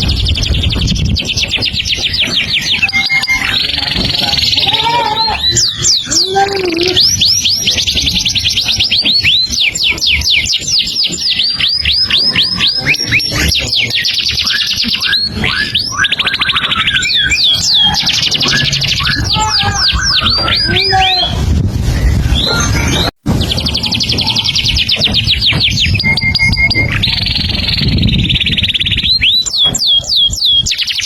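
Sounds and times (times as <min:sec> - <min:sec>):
songbird singing trills: 0:00.0 - 0:21.4, 0:22.0 - 0:31.0.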